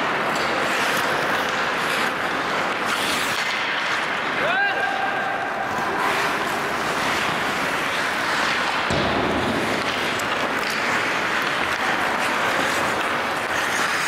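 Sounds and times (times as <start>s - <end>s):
hockey sticks clicking on puck: 0.0s - 14.0s
skates on ice: 0.0s - 14.0s.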